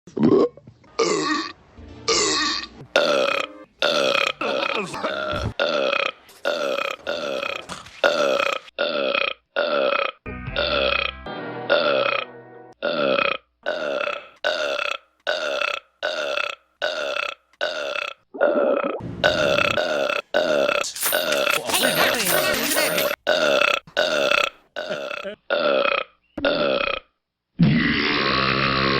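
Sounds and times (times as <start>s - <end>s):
person belching: 2.1s - 28.9s.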